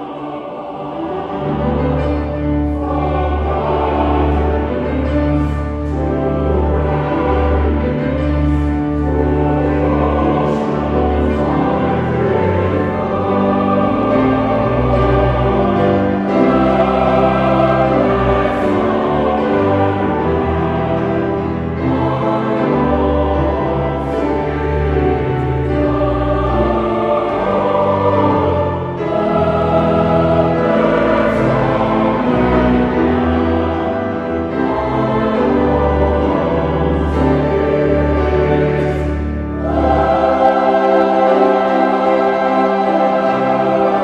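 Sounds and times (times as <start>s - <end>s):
choir singing worship song: 0.0s - 44.0s
instrumental accompaniment: 0.0s - 44.0s.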